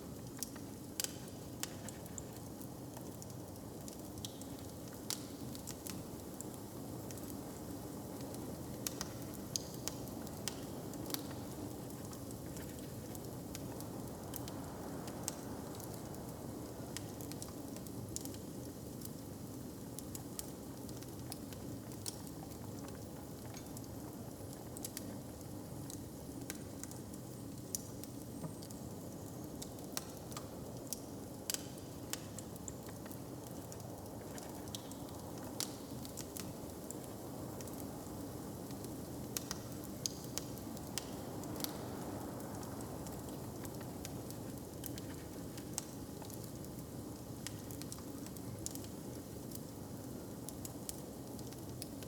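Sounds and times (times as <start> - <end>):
wood fire crackling and popping: 0.1 - 16.1, 16.9 - 52.0.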